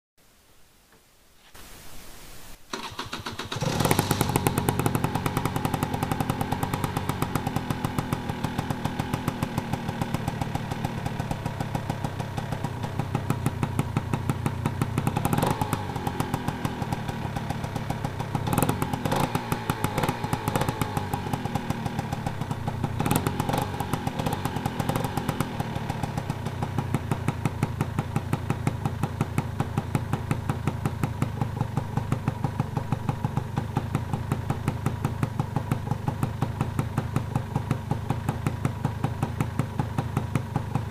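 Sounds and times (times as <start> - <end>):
motorcycle engine idling and revving: 2.7 - 40.9.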